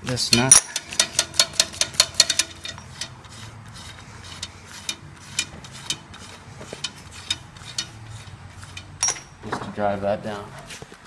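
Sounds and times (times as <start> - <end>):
nut rattling on threaded rod: 0.0 - 9.6.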